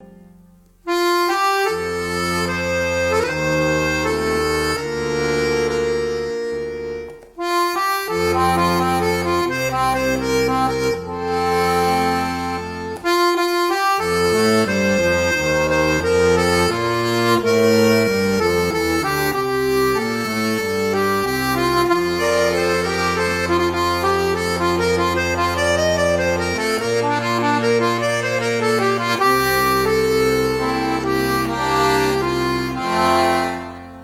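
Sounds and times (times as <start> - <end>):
accordion music: 0.0 - 34.0.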